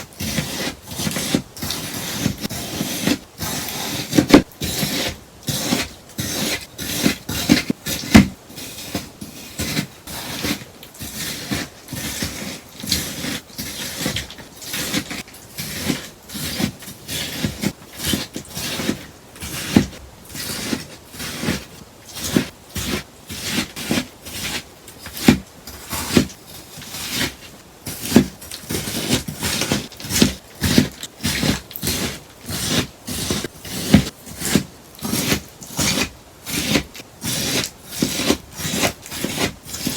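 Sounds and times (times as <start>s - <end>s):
scissors snipping sponge: 0.0s - 39.9s.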